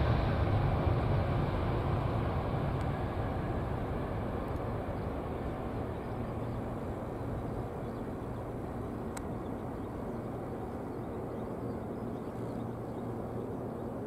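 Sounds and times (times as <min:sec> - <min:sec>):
jet engines rumbling at takeoff: 0:00.0 - 0:14.0.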